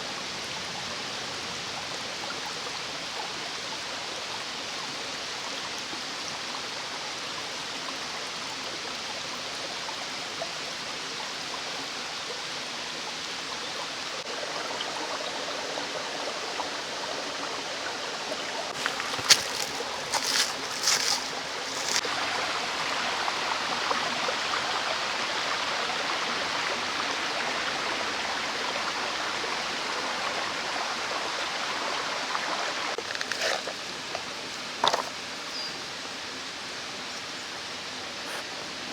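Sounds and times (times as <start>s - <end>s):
mountain stream flowing: 0.0s - 38.9s.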